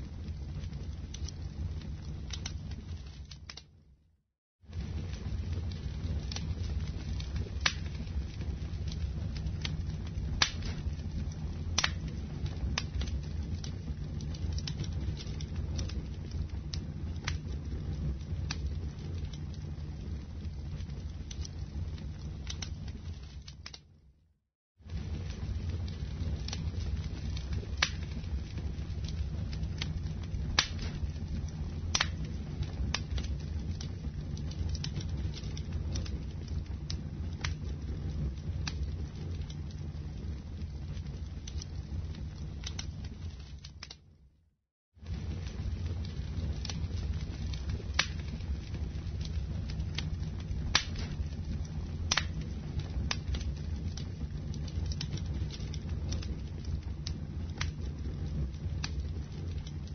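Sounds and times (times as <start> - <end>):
wood fire crackling and popping: 0.0 - 3.9, 4.6 - 24.0, 24.8 - 44.3, 45.0 - 59.9
low rumble of flames: 0.0 - 59.9
rain pattering: 4.7 - 23.6, 24.8 - 43.8, 45.0 - 59.9.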